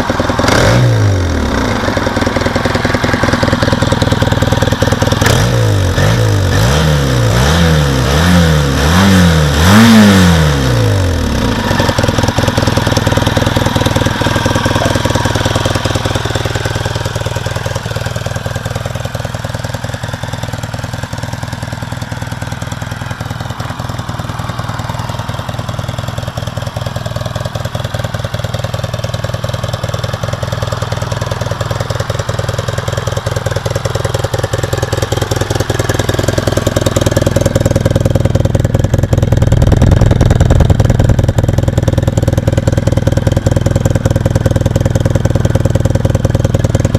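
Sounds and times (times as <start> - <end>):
motorcycle engine revving and idling: 0.0 - 46.9.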